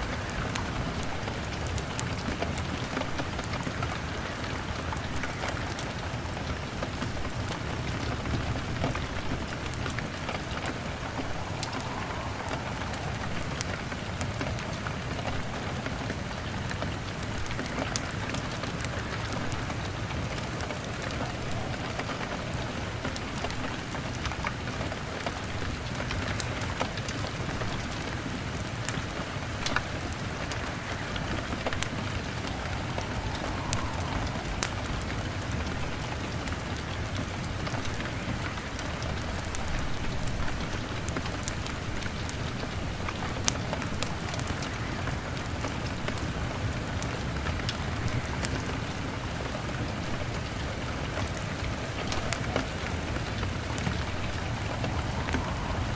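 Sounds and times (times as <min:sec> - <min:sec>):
rain pattering on a window: 0:00.0 - 0:55.9
wood fire crackling: 0:00.0 - 0:55.9.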